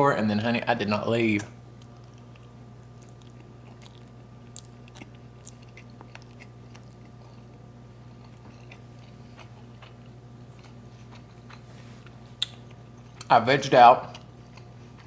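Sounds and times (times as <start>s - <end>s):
steady low hum: 0.0s - 15.0s
man chewing noodles: 1.8s - 13.3s, 14.1s - 15.0s.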